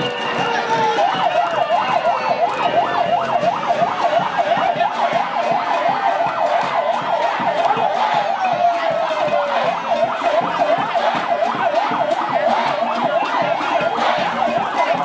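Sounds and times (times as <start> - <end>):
crowd noise: 0.0 - 15.0
electronic siren yelping: 0.0 - 15.0.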